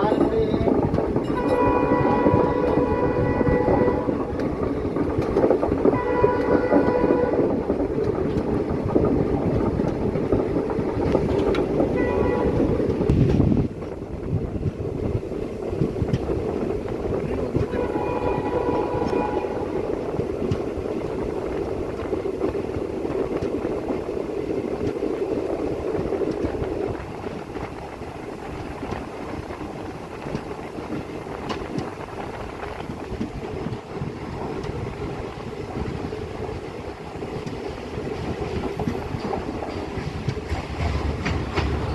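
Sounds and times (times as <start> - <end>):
train wheels rumbling: 0.0 - 41.9.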